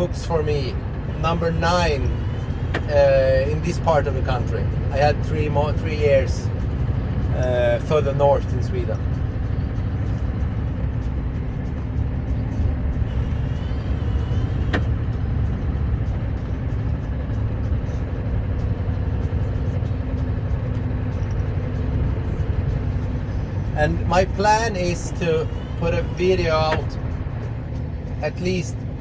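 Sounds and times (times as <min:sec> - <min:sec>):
truck diesel engine rumble: 0:00.0 - 0:29.0.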